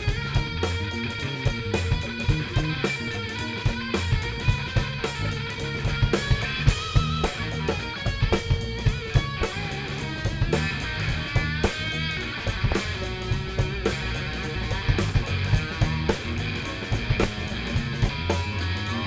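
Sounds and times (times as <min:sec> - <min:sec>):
bass guitar: 0:00.0 - 0:19.0
drum kit beat: 0:00.0 - 0:19.0
electric guitar lead: 0:00.0 - 0:19.0.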